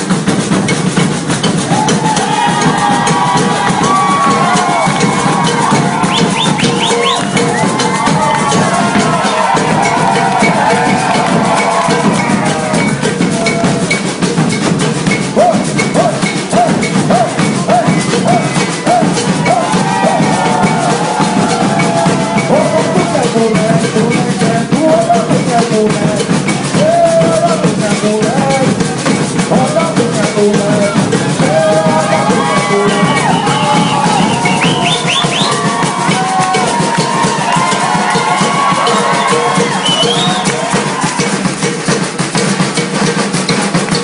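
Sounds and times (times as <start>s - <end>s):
drum and percussion groove: 0.0s - 44.0s.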